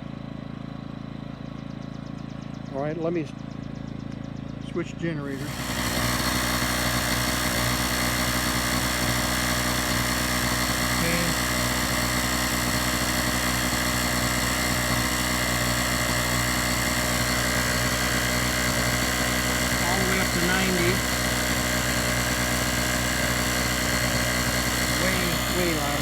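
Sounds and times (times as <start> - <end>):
gasoline generator running: 0.0 - 26.0.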